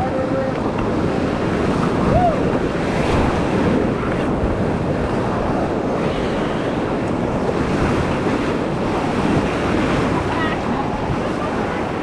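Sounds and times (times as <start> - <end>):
whitewater rapids rushing: 0.0 - 12.0
wind noise on microphone: 0.0 - 12.0.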